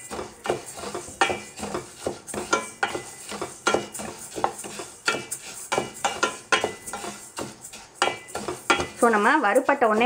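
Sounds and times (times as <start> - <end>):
spatula scraping a steel pan: 0.0 - 10.0.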